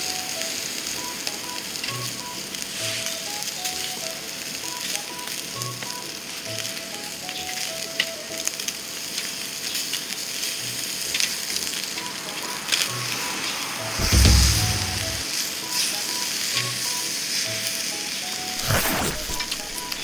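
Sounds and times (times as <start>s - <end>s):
meat sizzling on a grill: 0.0s - 14.0s, 15.3s - 18.6s.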